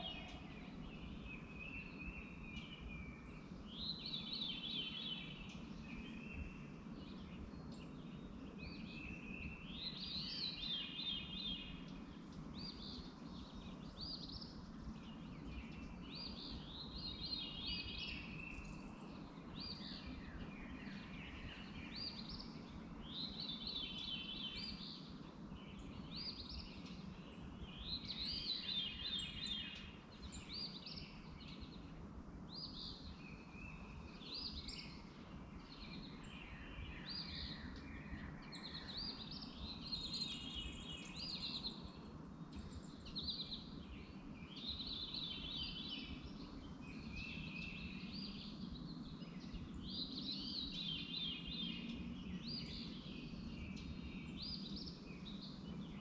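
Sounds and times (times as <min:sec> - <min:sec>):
bird chirping: 0:00.0 - 0:56.0.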